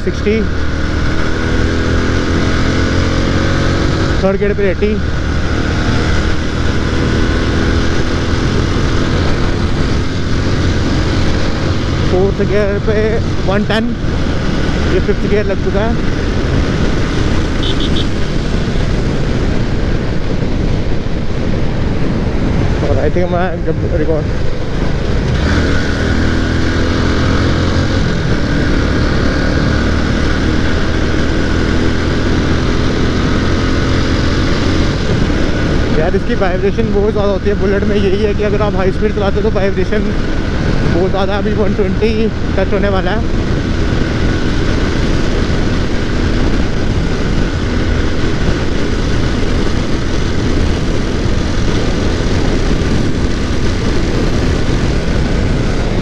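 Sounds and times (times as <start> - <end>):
motorcycle engine running hard: 0.0 - 56.0
wind rush on microphone: 0.0 - 56.0.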